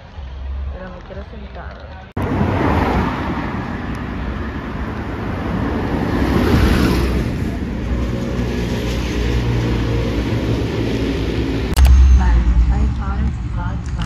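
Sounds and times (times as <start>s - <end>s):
cars driving past: 2.2s - 14.0s.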